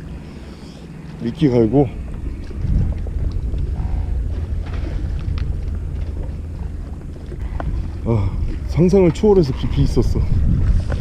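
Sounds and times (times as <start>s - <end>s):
boat engine rumble: 0.0s - 11.0s
wind on microphone: 0.0s - 11.0s.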